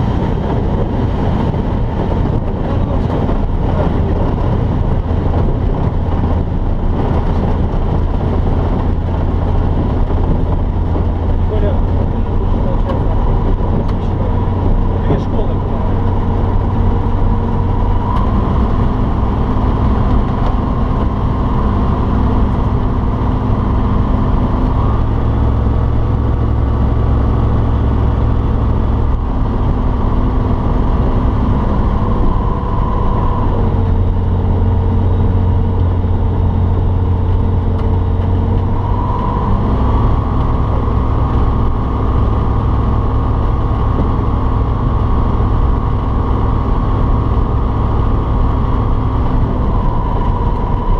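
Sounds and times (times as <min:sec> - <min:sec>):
aircraft engine and propeller: 0:00.0 - 0:50.9.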